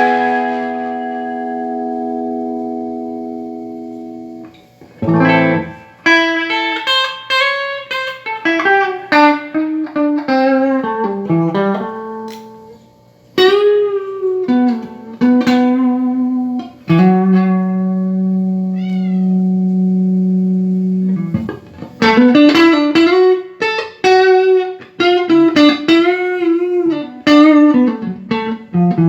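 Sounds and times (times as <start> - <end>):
electric guitar melody: 0.0 - 29.0.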